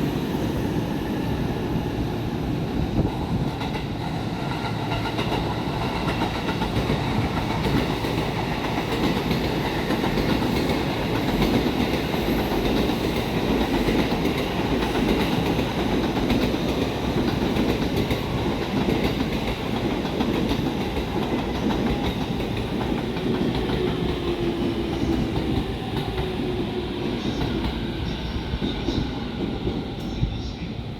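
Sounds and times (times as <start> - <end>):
train wheels rumbling on rails: 0.0 - 30.9.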